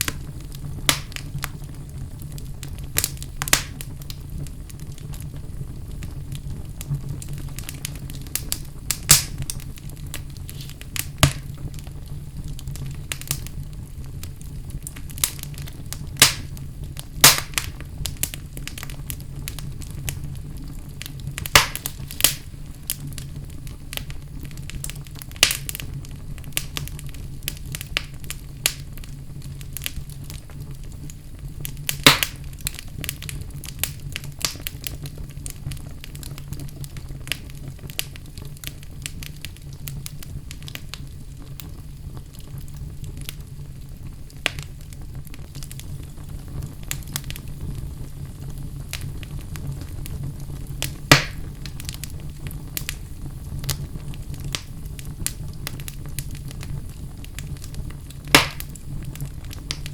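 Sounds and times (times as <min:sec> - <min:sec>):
fire crackling and popping: 0:00.0 - 0:59.9
wood fire rumbling: 0:00.0 - 0:59.9.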